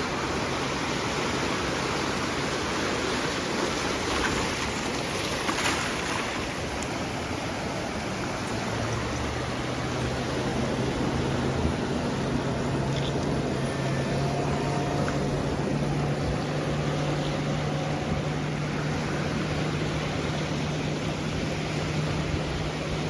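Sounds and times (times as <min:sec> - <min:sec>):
low engine hum: 0:00.0 - 0:23.0
waves washing onto beach: 0:00.0 - 0:23.0.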